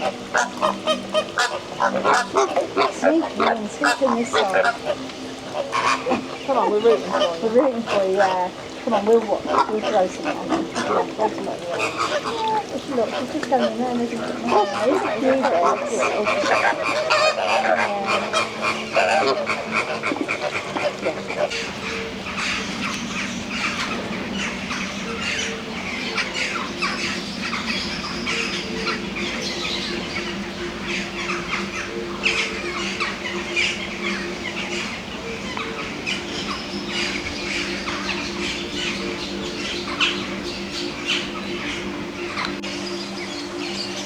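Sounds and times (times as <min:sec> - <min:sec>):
birds squawking and chirping: 0:00.0 - 0:44.0
steady low hum: 0:00.0 - 0:44.0.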